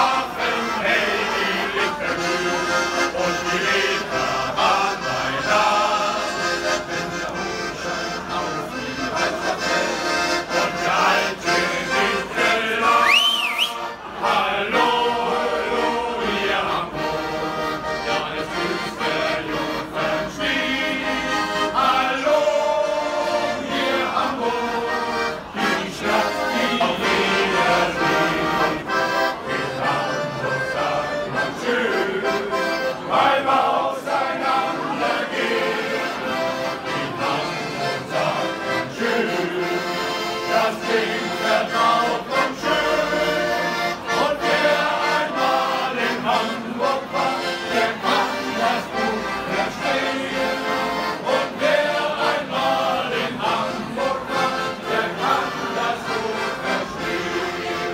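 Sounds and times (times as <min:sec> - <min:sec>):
accordion: 0:00.0 - 0:57.9
men's choir singing: 0:00.0 - 0:57.9.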